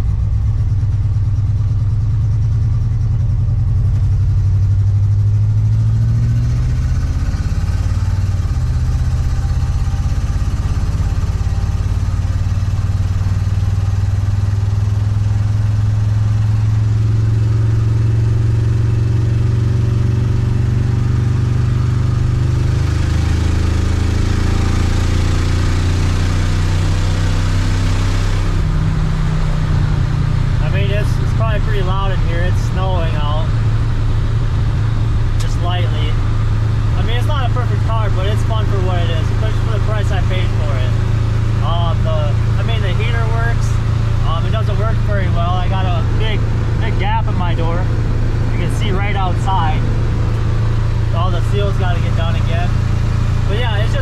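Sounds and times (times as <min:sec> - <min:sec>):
car engine running: 0:00.0 - 0:54.0
road and wind noise: 0:00.0 - 0:54.0.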